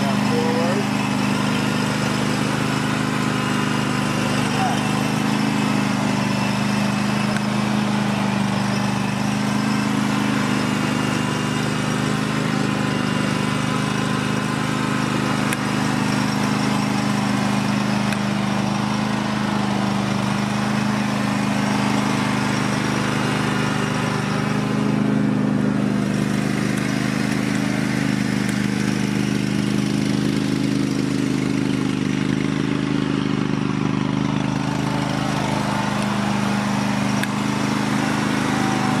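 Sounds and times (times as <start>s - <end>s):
lawn tractor engine running: 0.0s - 39.0s.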